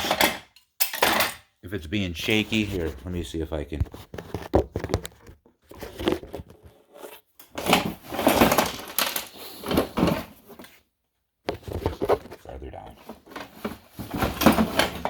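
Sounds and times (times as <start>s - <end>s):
rustling and crinkling handling noise: 2.0s - 15.0s.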